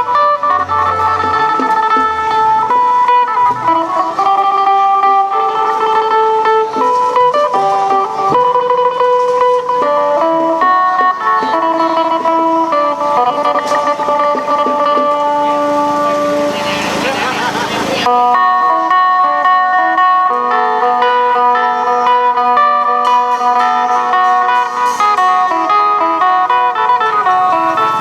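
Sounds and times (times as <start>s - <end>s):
plucked lute melody: 0.0s - 28.0s.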